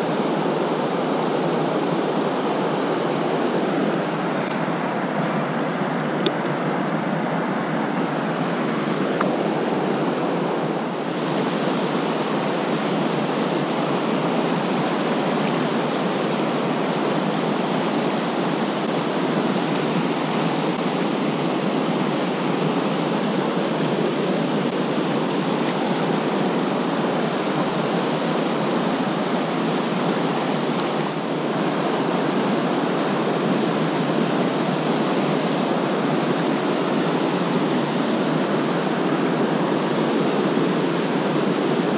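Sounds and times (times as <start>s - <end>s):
river rapids rushing: 0.0s - 41.9s.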